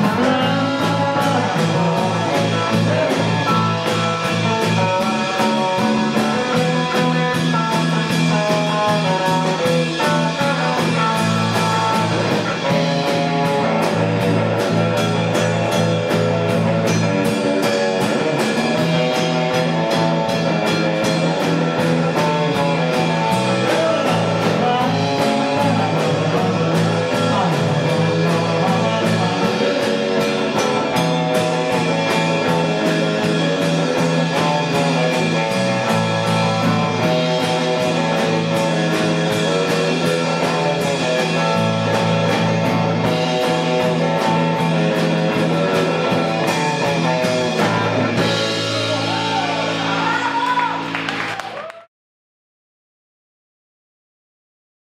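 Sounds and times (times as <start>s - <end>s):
country band playing: 0.0s - 51.5s.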